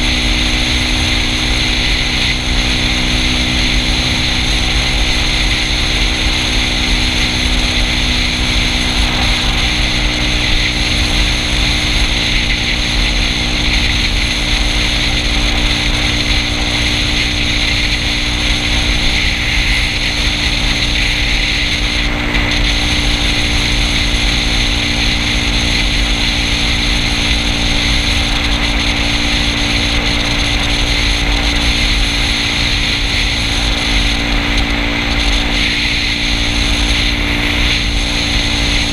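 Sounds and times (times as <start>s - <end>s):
scooter engine droning: 0.0s - 38.9s
wind rush: 0.0s - 38.9s.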